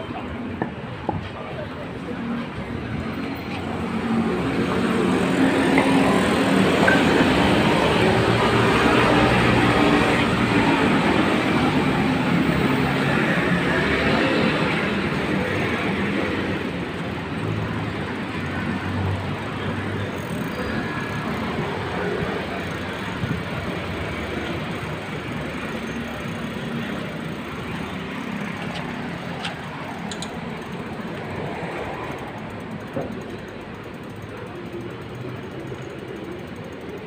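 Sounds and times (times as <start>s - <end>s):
passing traffic: 0.0s - 37.0s.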